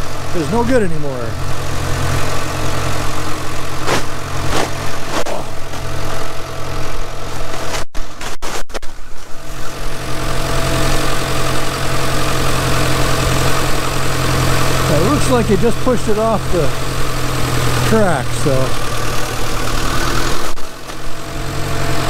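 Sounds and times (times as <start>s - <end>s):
engine idling: 0.0s - 7.6s, 9.4s - 22.0s.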